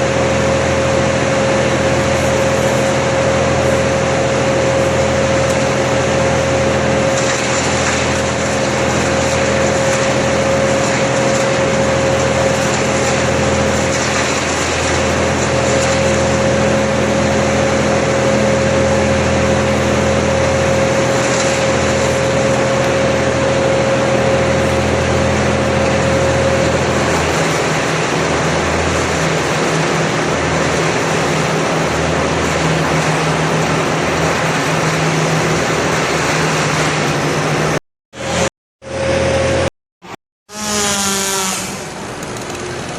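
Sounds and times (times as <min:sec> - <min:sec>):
machinery engine running: 0:00.0 - 0:42.9.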